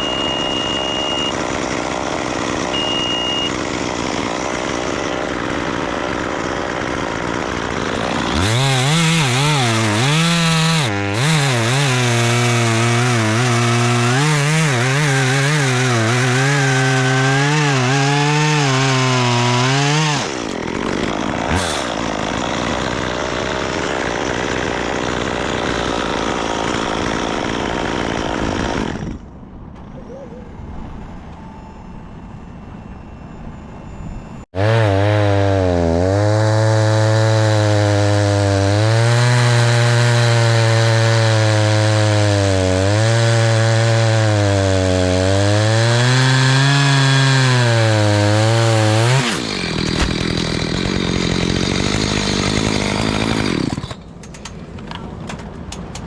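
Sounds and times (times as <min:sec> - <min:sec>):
chainsaw cutting wood: 0:00.0 - 0:29.3, 0:34.6 - 0:56.0.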